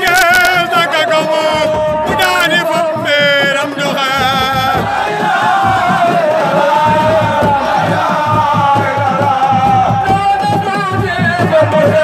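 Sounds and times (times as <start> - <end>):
crowd chanting and singing: 0.0 - 12.0.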